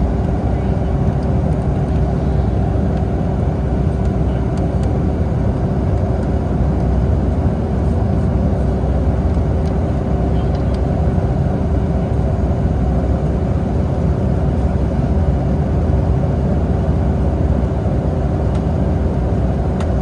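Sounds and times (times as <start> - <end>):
constant hum: 0.0 - 20.0
jet engines rumbling: 0.0 - 20.0.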